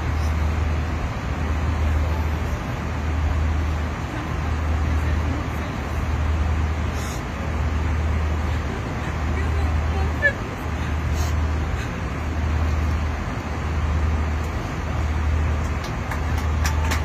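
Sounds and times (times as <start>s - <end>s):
airliner engines and airflow rushing: 0.0s - 17.0s
low cabin hum: 0.0s - 17.0s.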